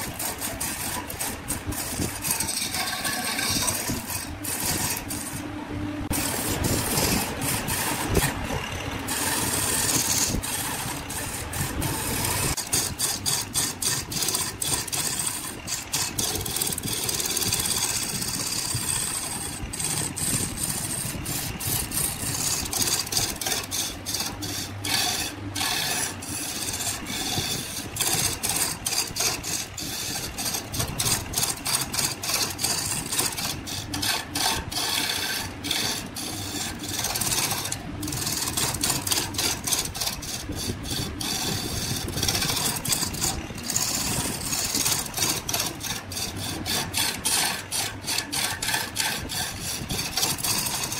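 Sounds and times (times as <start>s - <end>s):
chisel scraping spinning wood: 0.0s - 50.9s
lathe motor hum: 0.0s - 50.9s.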